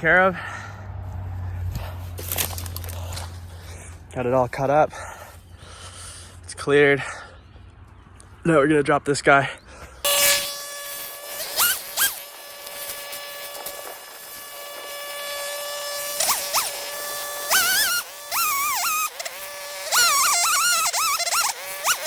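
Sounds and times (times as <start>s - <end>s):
chainsaw running at high revs: 0.0s - 5.8s, 10.0s - 22.0s.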